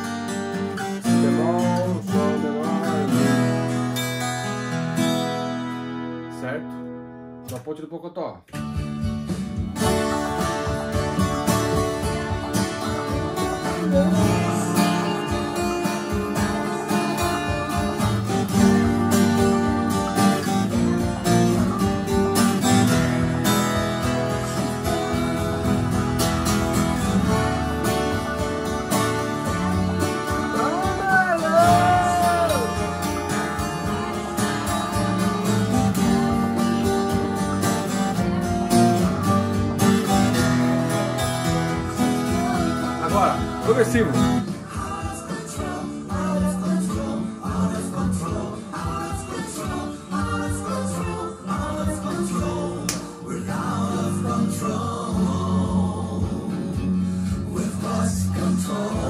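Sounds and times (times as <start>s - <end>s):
acoustic guitar strumming chords: 0.0s - 7.7s, 8.4s - 59.0s.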